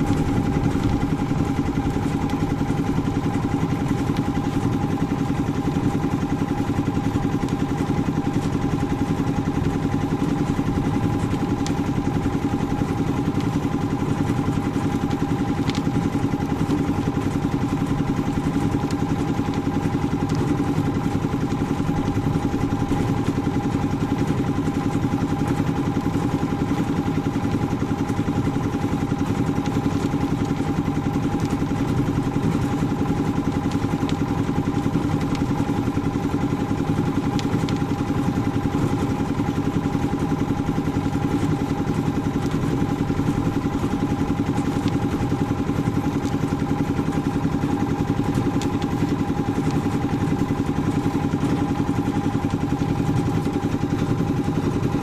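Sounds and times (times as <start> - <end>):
concrete mixer engine running: 0.0 - 55.0.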